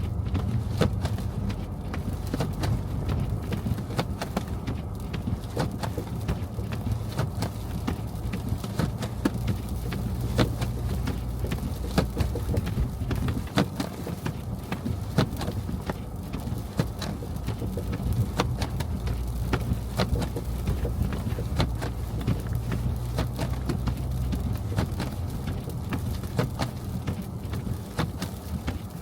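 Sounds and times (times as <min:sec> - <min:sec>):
car driving low rumble: 0:00.0 - 0:29.0.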